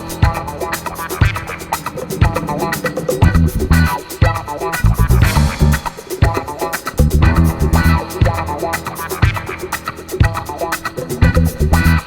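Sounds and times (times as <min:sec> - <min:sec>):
music with steady beat: 0:00.0 - 0:12.0
plucked guitar: 0:00.0 - 0:12.0.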